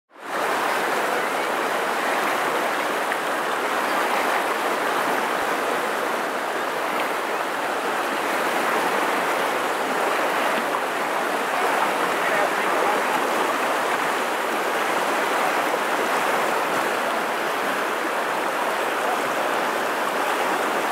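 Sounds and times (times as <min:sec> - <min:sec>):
river rushing over rocks: 0:00.2 - 0:20.9.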